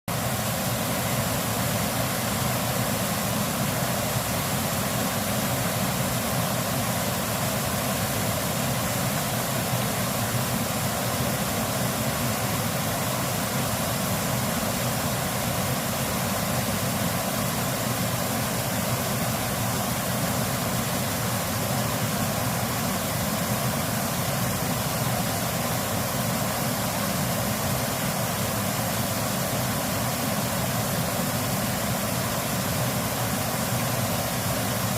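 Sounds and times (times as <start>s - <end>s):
stream rushing: 0.1s - 34.9s.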